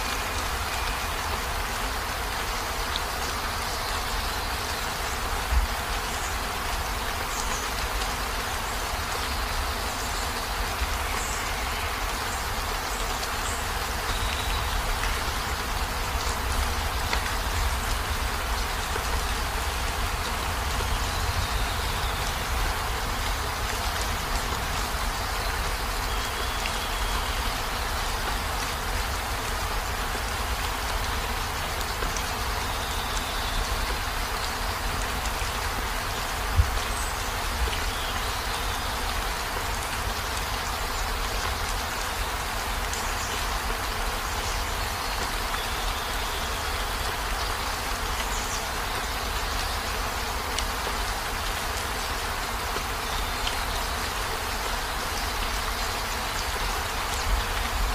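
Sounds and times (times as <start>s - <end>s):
heavy rain on a vehicle roof: 0.0s - 57.9s.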